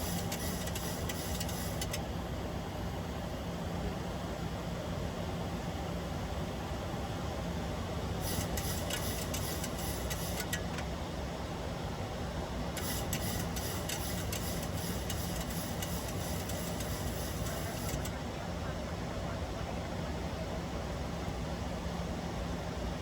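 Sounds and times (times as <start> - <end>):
cockpit airflow and engine noise: 0.0 - 23.0.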